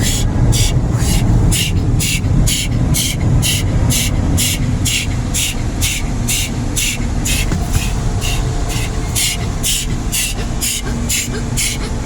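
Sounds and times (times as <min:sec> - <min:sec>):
car wash blower dryers: 0:00.0 - 0:12.0.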